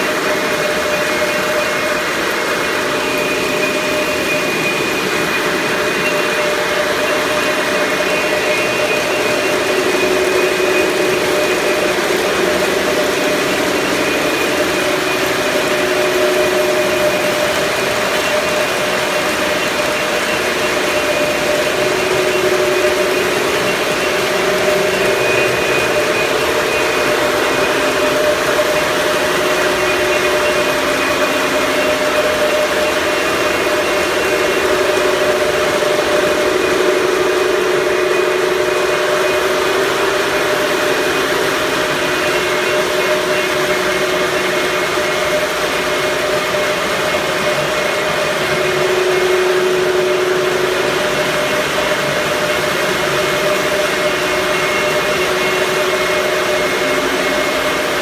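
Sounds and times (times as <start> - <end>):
mechanical drone: 0.0 - 58.0.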